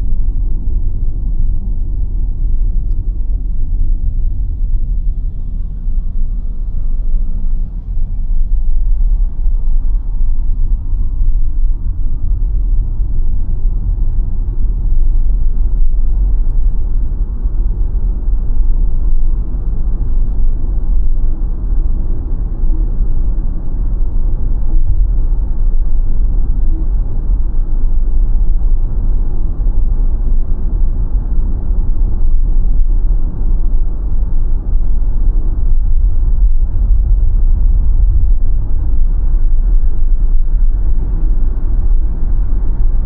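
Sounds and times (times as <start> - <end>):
road and tyre rumble: 0.0 - 43.0.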